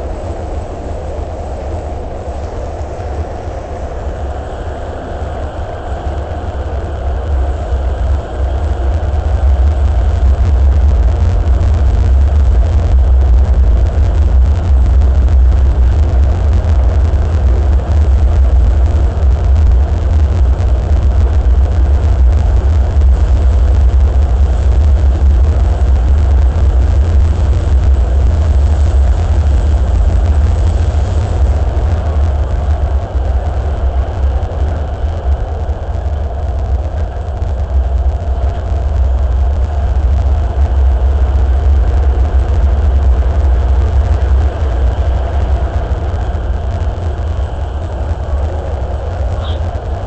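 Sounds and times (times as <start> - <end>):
subway train rumbling in tunnel: 0.0 - 50.0.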